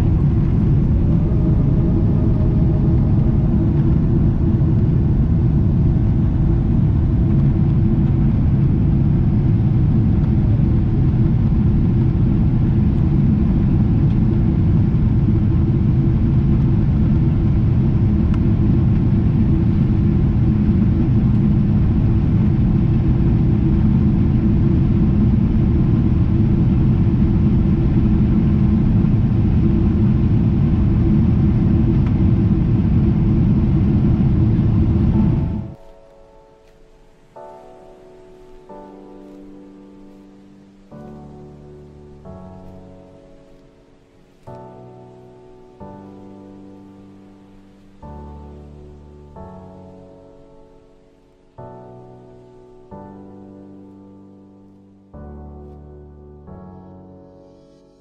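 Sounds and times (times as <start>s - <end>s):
airliner cabin engine rumble: 0.0s - 54.8s.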